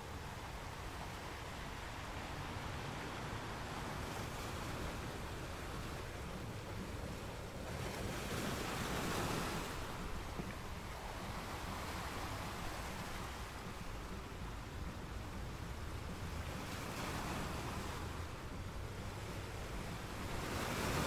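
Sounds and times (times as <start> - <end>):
waves washing: 0.0 - 21.0.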